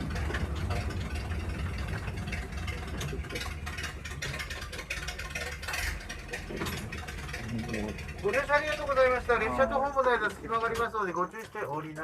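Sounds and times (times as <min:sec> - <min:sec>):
small gasoline engine rumbling: 0:00.0 - 0:12.0.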